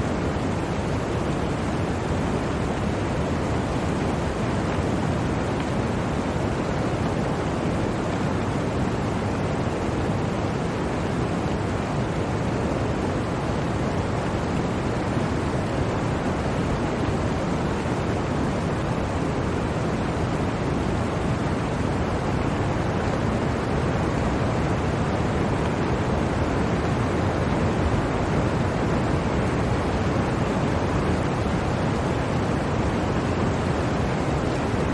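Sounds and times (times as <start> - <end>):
blizzard wind rushing: 0.0 - 34.9.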